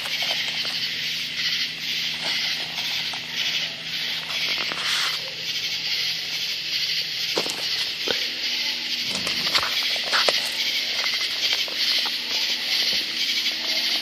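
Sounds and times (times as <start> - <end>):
pulsing night insect chorus: 0.0 - 14.0.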